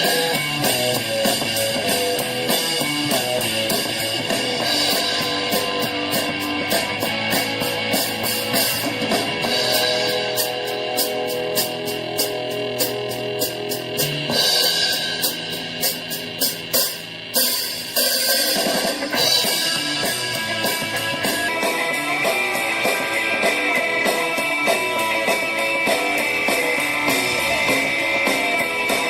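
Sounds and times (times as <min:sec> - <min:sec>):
rock song through small speaker: 0:00.0 - 0:29.0
strummed guitar: 0:00.0 - 0:29.0.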